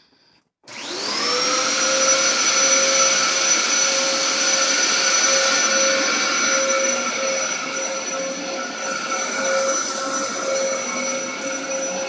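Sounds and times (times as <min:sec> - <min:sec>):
vacuum cleaner motor whining: 0:00.7 - 0:12.0.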